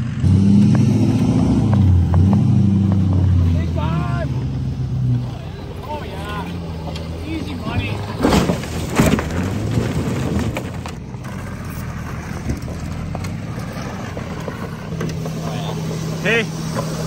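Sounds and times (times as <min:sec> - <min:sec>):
car engine drone: 0:00.0 - 0:17.0
tyres on gravel: 0:00.0 - 0:17.0.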